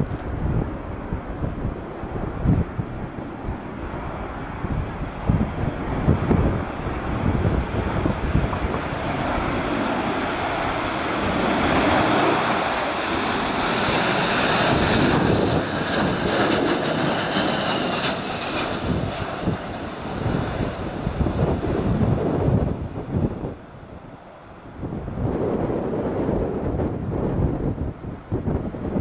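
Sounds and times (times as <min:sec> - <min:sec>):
jet engines passing close: 0:00.0 - 0:29.0
wind buffeting microphone: 0:00.0 - 0:29.0.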